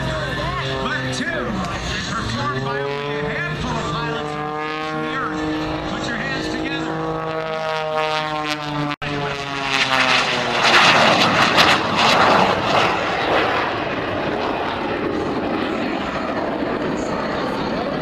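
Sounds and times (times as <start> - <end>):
propeller plane passing overhead: 0.0 - 18.0.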